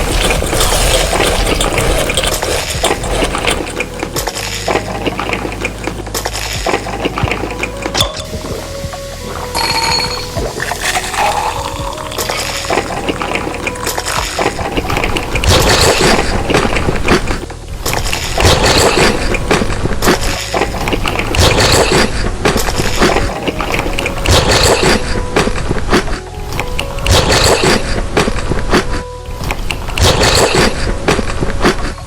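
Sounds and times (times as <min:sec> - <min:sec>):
background music: 0:00.0 - 0:32.0.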